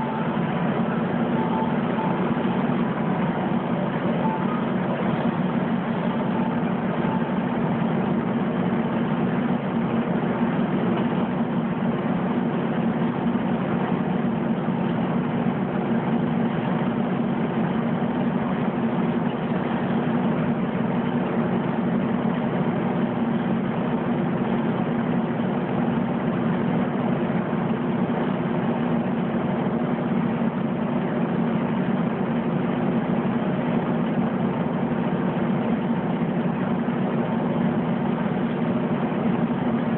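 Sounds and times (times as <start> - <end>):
washing machines humming: 0.0 - 39.9.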